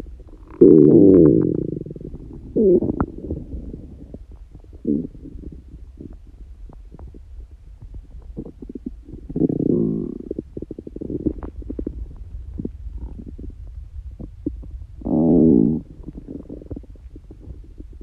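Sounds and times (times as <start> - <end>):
stomach growling and gurgling: 0.0 - 18.0.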